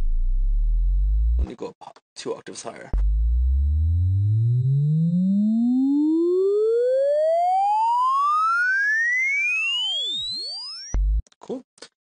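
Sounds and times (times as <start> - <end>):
synthesizer sine tone rising in pitch: 0.0 - 1.4, 3.0 - 11.2.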